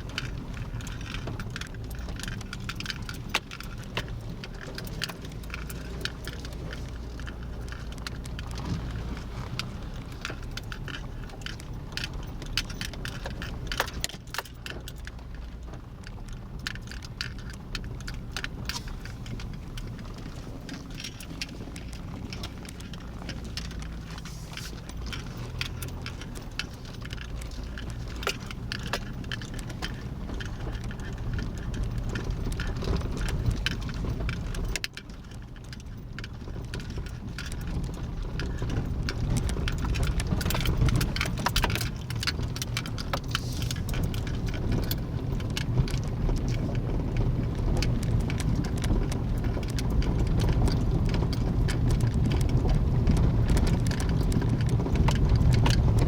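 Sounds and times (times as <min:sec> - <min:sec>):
car rumble: 0:00.0 - 0:56.0
crackle of small clicks and taps: 0:00.0 - 0:56.0.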